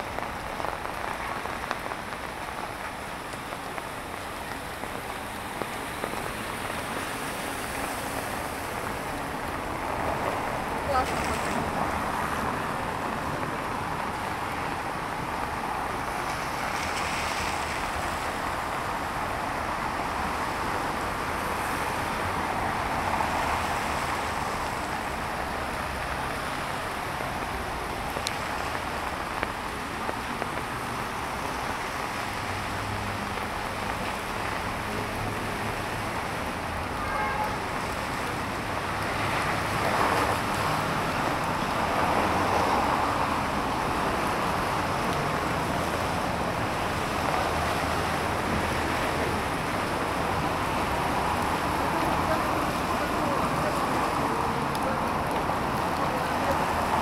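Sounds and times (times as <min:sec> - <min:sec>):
cars driving on wet road: 0:00.0 - 0:57.0
steady rain falling: 0:00.0 - 0:57.0.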